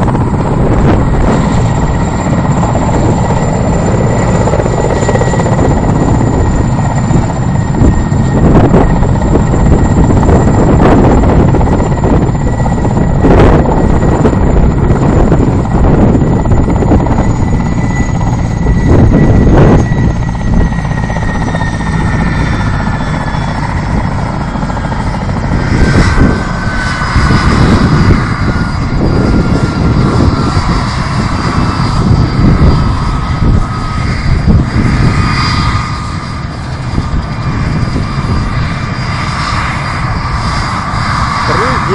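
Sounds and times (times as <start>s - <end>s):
helicopter engine whine: 0.0s - 41.9s
helicopter rotor rumble: 0.0s - 41.9s
wind gusting on microphone: 0.0s - 41.9s.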